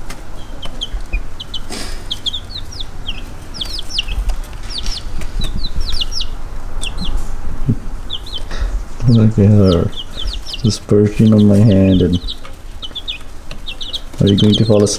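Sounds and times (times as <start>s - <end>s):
baby chicks peeping: 0.0s - 14.9s
low rumble: 0.8s - 14.6s.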